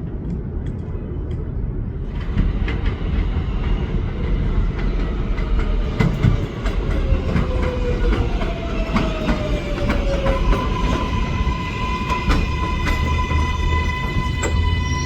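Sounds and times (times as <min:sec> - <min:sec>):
train wheels clickety-clack: 0:00.0 - 0:14.9
train rumble: 0:00.0 - 0:15.0.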